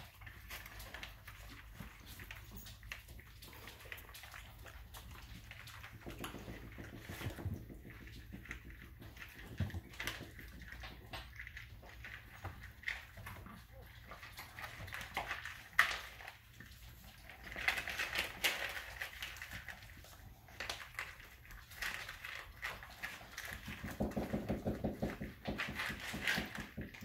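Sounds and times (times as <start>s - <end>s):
puppies crunching kibble: 0.0s - 27.0s.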